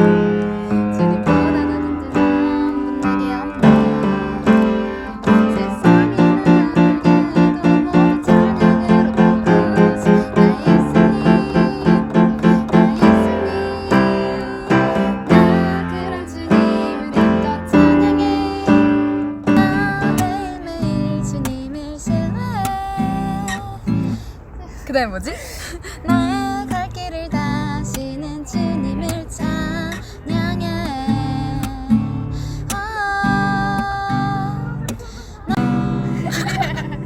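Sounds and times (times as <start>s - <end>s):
acoustic guitar strumming: 0.0s - 24.2s, 26.1s - 37.0s.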